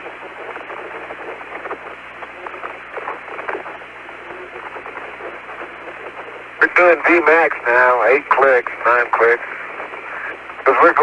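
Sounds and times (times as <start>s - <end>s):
faint radio crackling: 0.0s - 11.0s
radio hiss: 0.0s - 11.0s.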